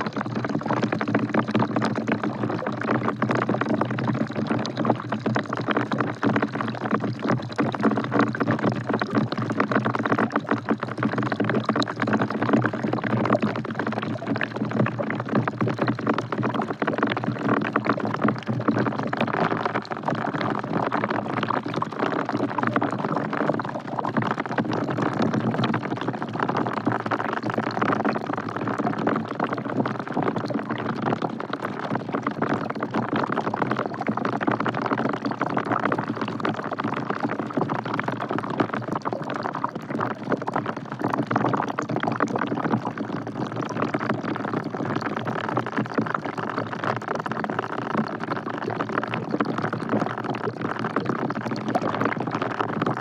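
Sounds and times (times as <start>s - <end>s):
rain falling into a bucket: 0.0s - 53.0s.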